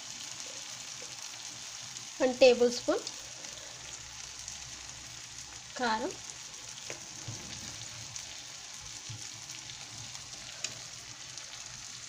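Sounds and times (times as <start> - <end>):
curry sizzling in a metal pan: 0.0 - 12.0.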